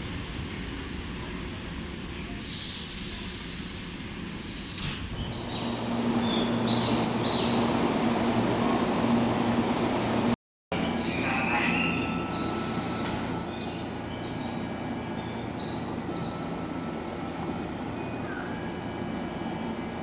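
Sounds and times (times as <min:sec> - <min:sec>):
train rumble with steady hum: 0:00.0 - 0:20.0.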